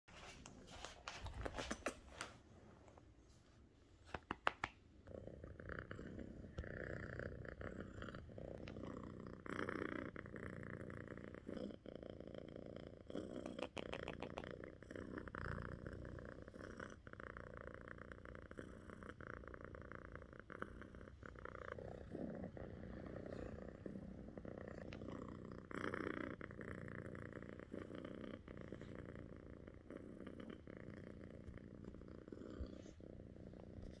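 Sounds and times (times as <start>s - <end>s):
cat purring: 0.1s - 34.0s.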